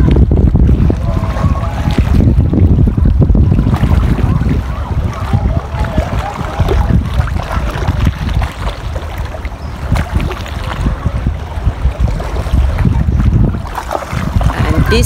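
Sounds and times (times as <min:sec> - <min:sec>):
sea water lapping and splashing: 0:00.0 - 0:15.0
wind rumbling on microphone: 0:00.0 - 0:15.0.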